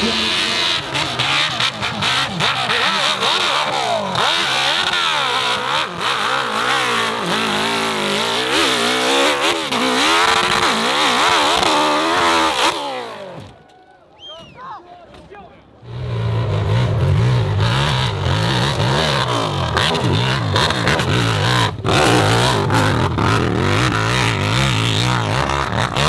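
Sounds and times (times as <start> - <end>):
motorcycle engine revving hard: 0.0 - 13.5, 15.9 - 26.0.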